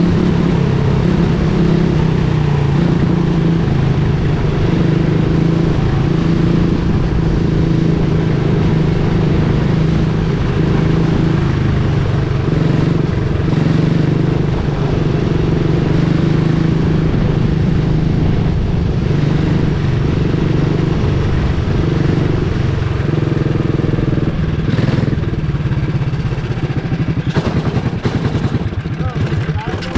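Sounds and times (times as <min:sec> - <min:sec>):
kart engine running: 0:00.0 - 0:29.9
wind and road noise: 0:00.0 - 0:29.9.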